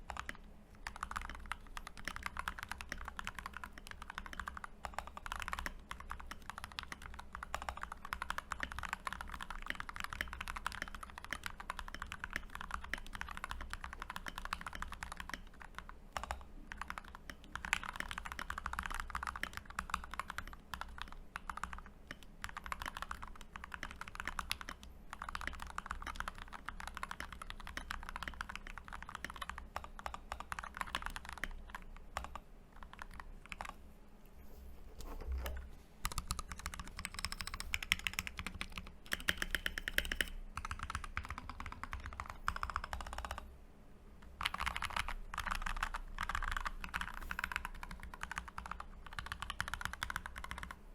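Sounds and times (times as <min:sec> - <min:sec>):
mechanical keyboard typing: 0:00.0 - 0:33.8, 0:35.2 - 0:43.5, 0:44.2 - 0:50.8.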